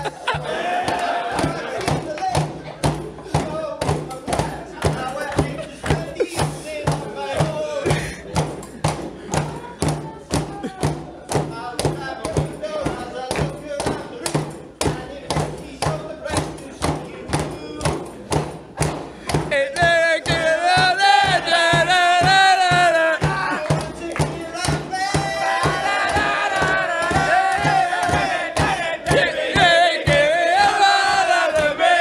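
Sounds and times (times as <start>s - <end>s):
group singing and shouting: 0.0s - 32.0s
steady thumping beat: 0.0s - 32.0s
young man singing: 3.3s - 18.3s, 19.2s - 32.0s.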